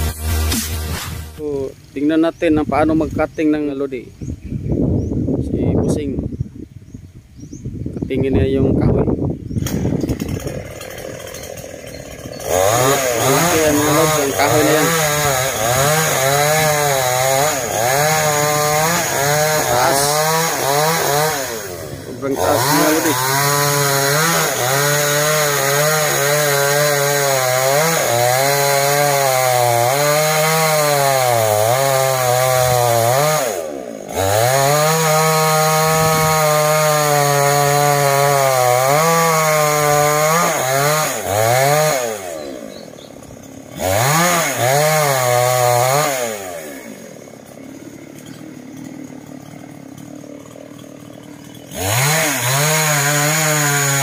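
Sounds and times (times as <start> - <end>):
chainsaw cutting tree trunk: 0.0 - 1.4, 9.5 - 54.0.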